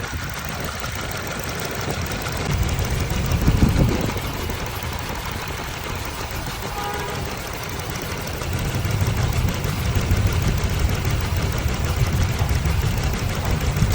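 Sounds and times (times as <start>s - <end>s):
car engine idling with misfire: 0.0s - 13.9s.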